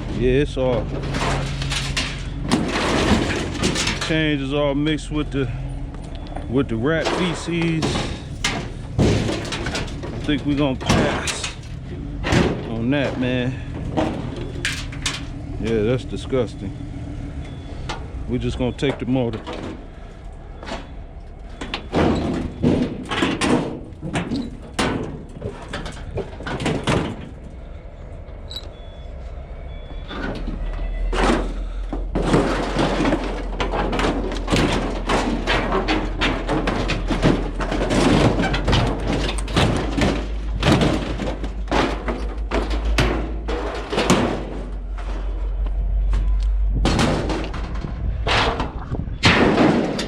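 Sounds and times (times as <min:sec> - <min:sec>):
metal knocks and clanks: 0:00.0 - 0:29.1, 0:29.7 - 0:50.0
low steady rumble: 0:00.0 - 0:50.0.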